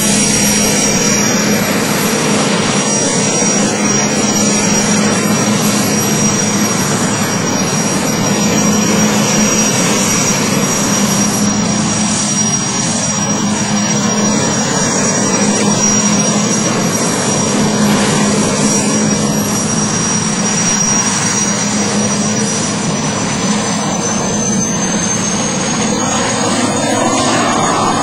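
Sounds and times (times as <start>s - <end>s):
helicopter turbine and rotor noise: 0.0s - 28.0s.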